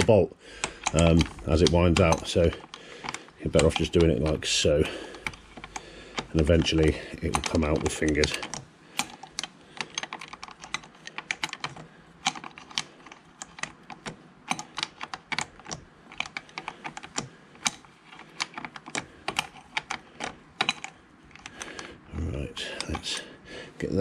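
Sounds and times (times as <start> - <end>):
socket ratchet clicking: 0.0 - 21.9.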